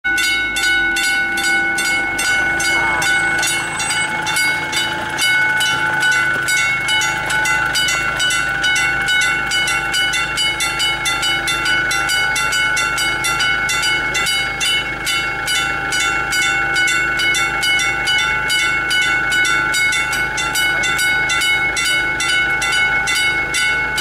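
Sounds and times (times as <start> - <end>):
level crossing bell ringing: 0.0 - 24.0.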